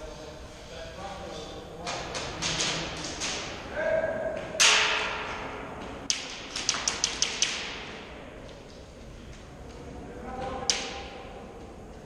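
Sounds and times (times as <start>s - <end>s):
airsoft guns firing in echoing hall: 1.8s - 12.0s.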